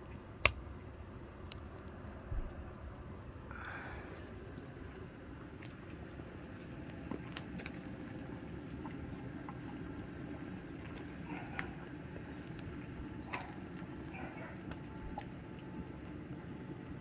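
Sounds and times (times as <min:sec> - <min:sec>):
broth boiling in a cauldron: 0:00.0 - 0:17.0.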